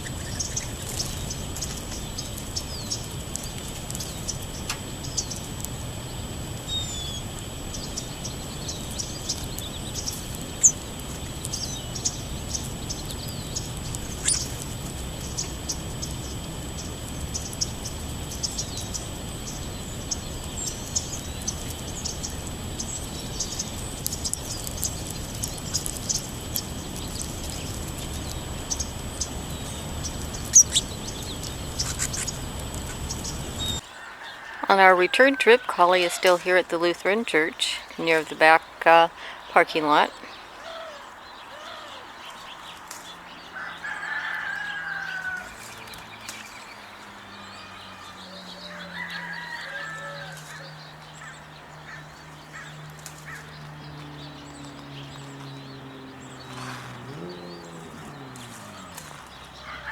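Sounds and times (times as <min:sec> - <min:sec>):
outdoor background hiss: 0:00.0 - 0:59.9
songbirds chirping and singing: 0:00.0 - 0:59.9.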